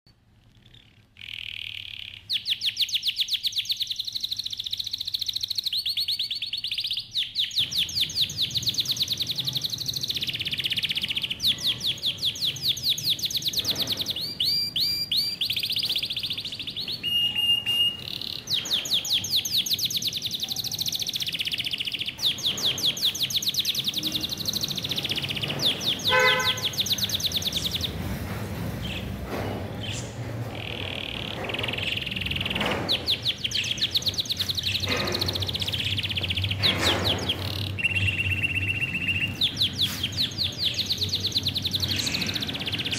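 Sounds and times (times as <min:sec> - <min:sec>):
budgerigars chirping: 0:01.2 - 0:28.0, 0:29.8 - 0:42.9.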